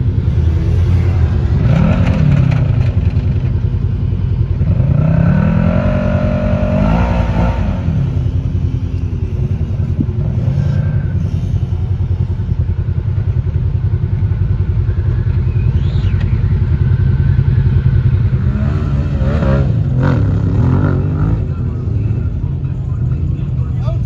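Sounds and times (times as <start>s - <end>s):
rising engine whine: 0.0s - 24.0s
utility vehicle engine rumbling: 0.0s - 24.0s
voices: 0.0s - 24.0s.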